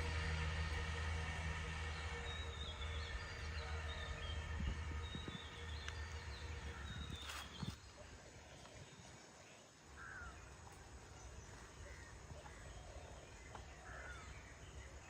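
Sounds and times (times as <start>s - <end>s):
low engine hum: 0.0s - 9.0s, 9.9s - 15.0s
birds chirping: 0.0s - 15.0s.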